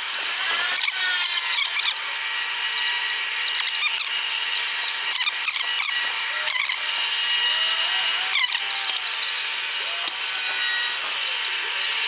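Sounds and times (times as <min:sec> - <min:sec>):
high-pitched machine whine: 0:00.0 - 0:12.0.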